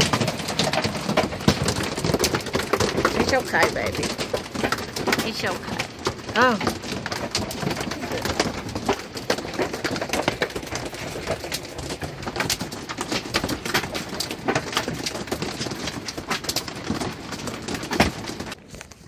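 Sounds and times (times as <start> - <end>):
hail pelting a camper roof: 0.0 - 19.0.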